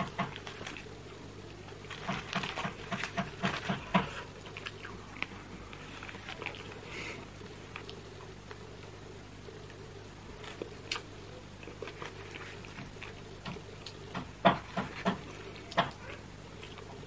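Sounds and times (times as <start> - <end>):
chicken meat tearing crackles: 0.0 - 8.8, 9.7 - 17.0.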